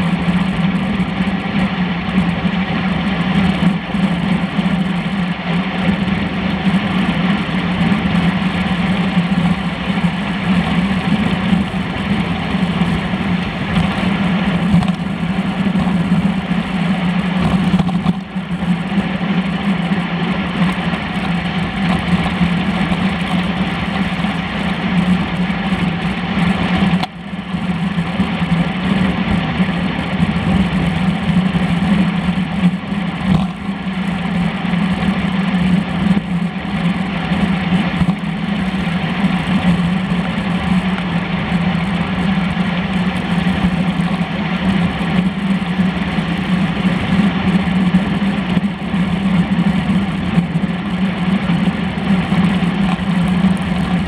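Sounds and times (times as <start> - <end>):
constant low hum: 0.0 - 54.0
wind and road noise: 0.0 - 54.0.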